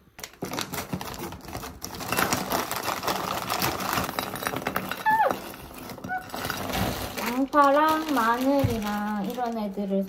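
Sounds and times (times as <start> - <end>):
frozen vegetables clattering on plate: 0.0 - 10.0
plastic bags crinkling: 0.0 - 10.0.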